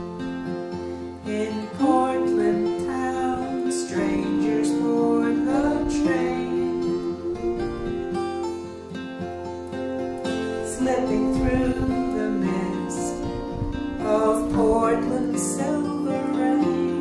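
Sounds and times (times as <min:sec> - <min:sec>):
acoustic guitar strumming: 0:00.0 - 0:17.0
gliding melody of held notes: 0:01.1 - 0:17.0.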